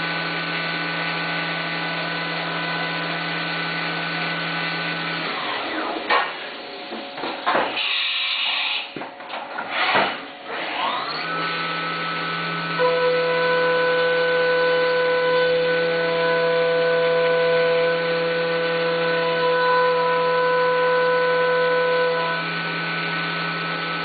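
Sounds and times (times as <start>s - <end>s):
end mill cutting metal: 0.0s - 8.9s, 9.6s - 24.0s
milling machine spindle whine: 0.0s - 9.0s, 9.7s - 24.0s.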